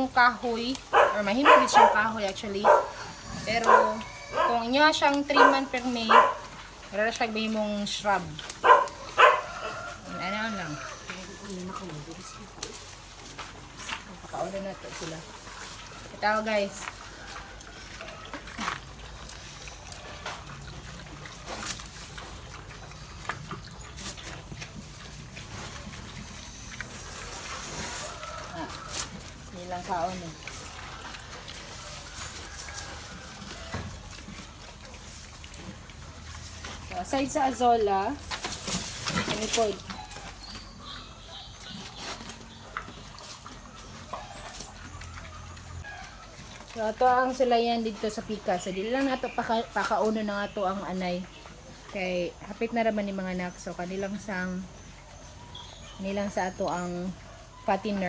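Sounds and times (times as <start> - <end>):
faint farmyard animals: 0.0 - 58.0
pigs crunching leaves: 0.0 - 58.0
pigs grunting: 0.0 - 58.0.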